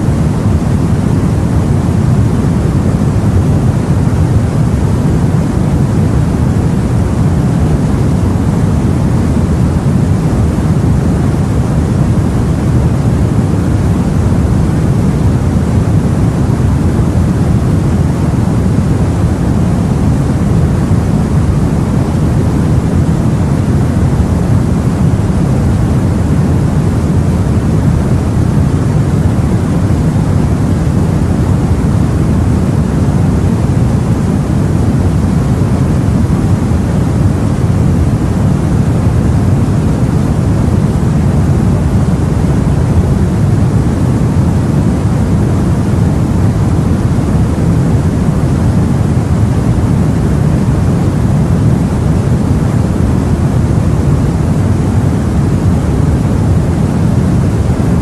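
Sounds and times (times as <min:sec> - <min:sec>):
sea and wind rumbling: 0:00.0 - 0:58.0.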